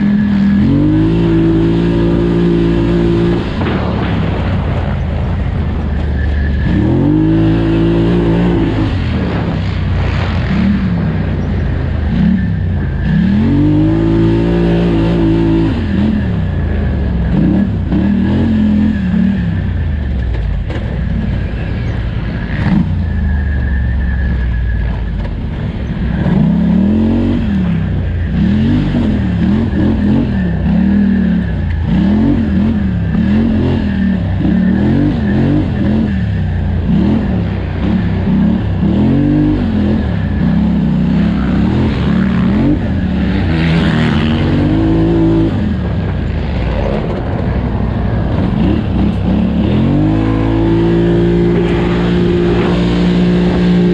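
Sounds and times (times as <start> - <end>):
engine revving: 0.0 - 53.9.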